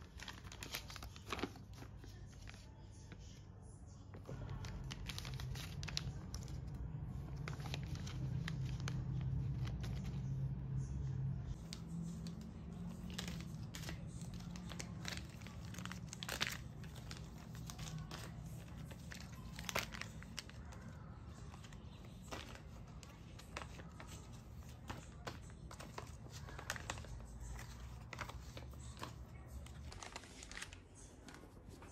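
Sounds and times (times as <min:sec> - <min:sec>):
plastic sachets crinkling: 0:00.0 - 0:02.8, 0:04.3 - 0:10.5, 0:11.5 - 0:31.9.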